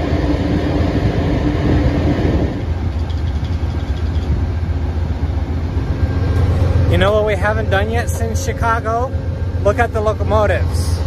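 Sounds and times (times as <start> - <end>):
higher steady hum: 0.0 - 11.0
idling train hum and rumble: 0.0 - 11.0.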